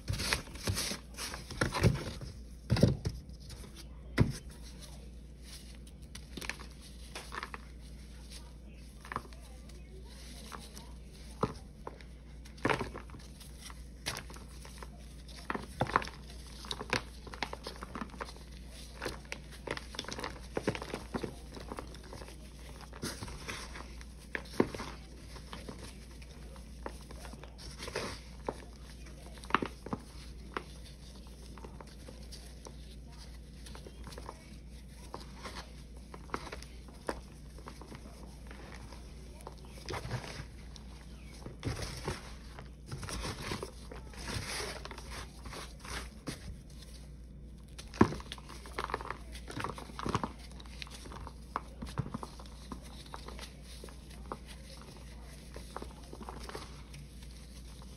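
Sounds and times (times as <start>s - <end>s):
powder lumps crunching and crackling: 0.0s - 57.9s.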